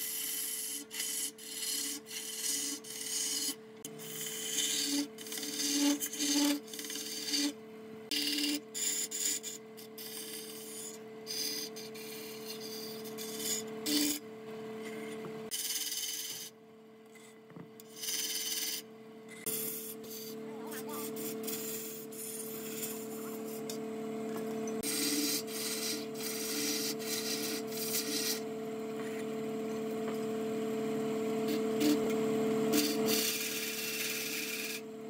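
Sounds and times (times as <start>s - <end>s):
lathe motor humming: 0.0s - 16.5s, 18.0s - 35.0s
chisel scraping spinning wood: 0.0s - 30.2s, 31.4s - 34.9s.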